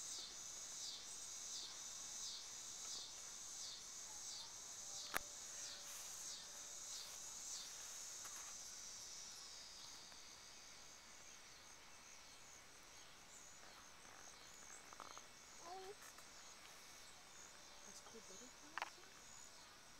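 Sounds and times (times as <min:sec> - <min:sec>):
insects buzzing: 0:00.0 - 0:19.9.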